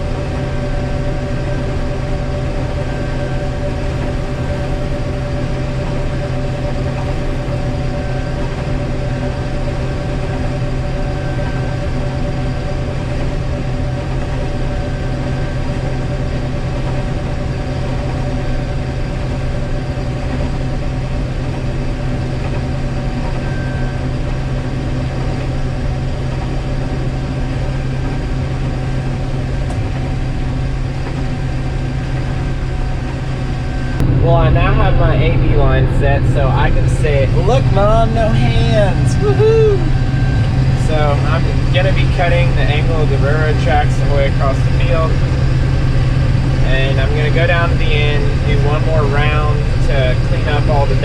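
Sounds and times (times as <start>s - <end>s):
combine harvester engine drone: 0.0s - 51.0s.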